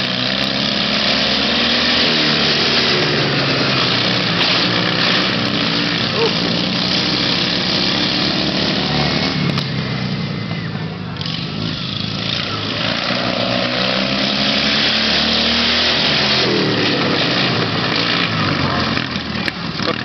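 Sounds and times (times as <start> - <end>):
racing lawnmower engines: 0.0 - 20.0.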